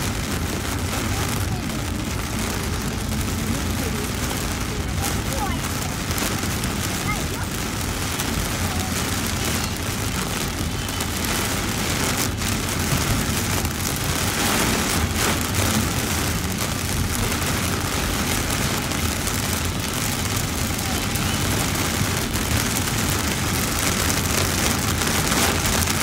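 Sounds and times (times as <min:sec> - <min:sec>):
rain on car windshield: 0:00.0 - 0:26.0
road and tyre noise: 0:00.0 - 0:26.0.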